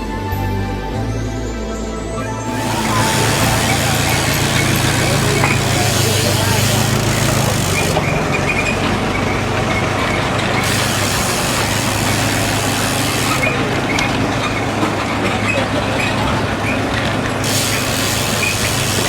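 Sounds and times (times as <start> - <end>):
motorcycle engine running: 2.5 - 19.0.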